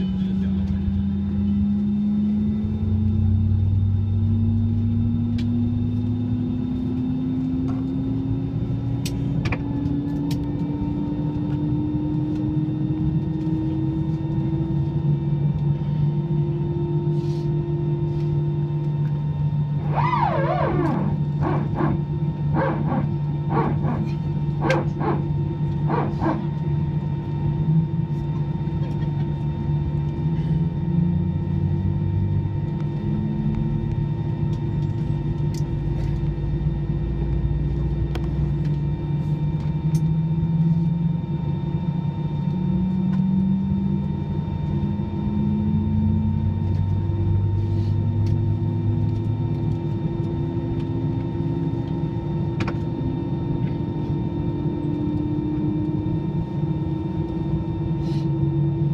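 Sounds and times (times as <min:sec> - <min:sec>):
low wavering tone: 0:00.0 - 0:28.8, 0:29.5 - 0:52.4
aircraft cabin drone: 0:00.0 - 0:58.9.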